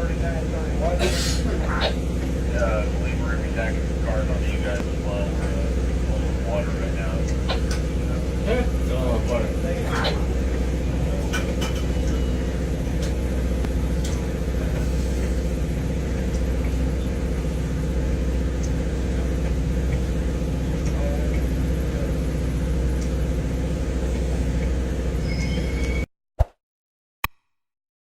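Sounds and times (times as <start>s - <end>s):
diesel locomotive engine drone: 0.0s - 26.1s.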